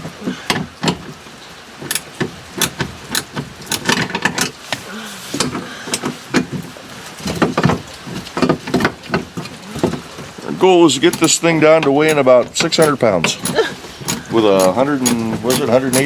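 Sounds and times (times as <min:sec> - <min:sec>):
parts rattling and clicking: 0:00.0 - 0:16.0.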